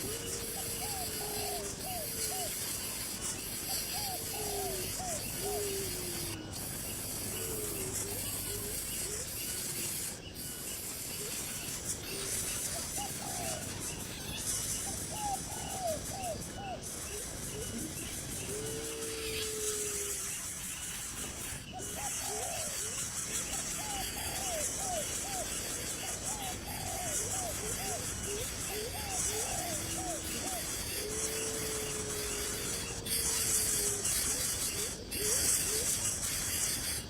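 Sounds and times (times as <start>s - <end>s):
bird calls: 0.0s - 37.0s
steady high hiss: 0.0s - 37.0s.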